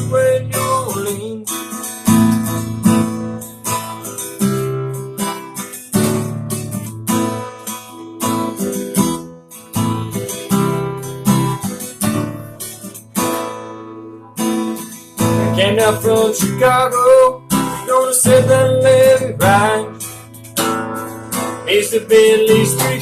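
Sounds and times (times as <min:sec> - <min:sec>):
strummed acoustic guitar country-rock: 0:00.0 - 0:23.0.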